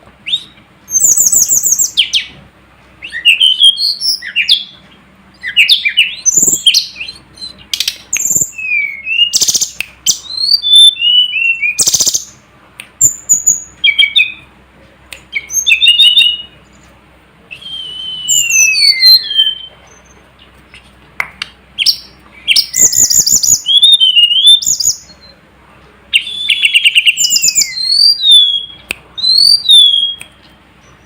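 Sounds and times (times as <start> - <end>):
bird singing whistled notes and trills: 0.2 - 2.4, 3.0 - 12.4, 13.0 - 14.5, 15.3 - 16.8, 17.5 - 20.5, 21.8 - 25.4, 26.1 - 31.0.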